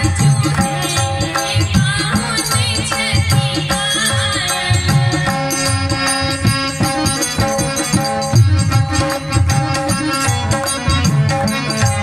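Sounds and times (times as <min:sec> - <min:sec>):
harmonium: 0:00.0 - 0:12.0
rattling hand percussion: 0:00.0 - 0:12.0.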